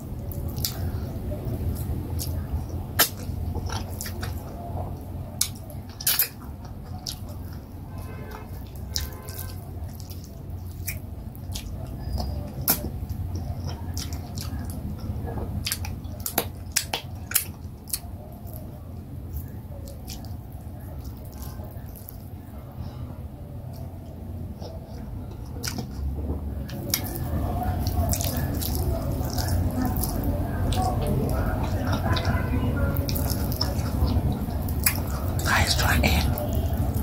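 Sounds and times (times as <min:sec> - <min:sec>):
wet mouth clicks and smacks: 0:00.2 - 0:07.6, 0:08.6 - 0:18.7, 0:24.6 - 0:37.0.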